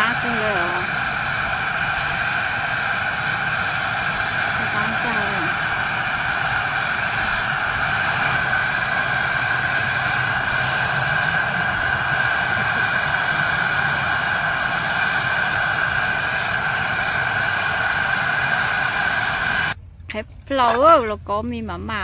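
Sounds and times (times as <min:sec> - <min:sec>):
gas stove burner rushing: 0:00.0 - 0:19.8.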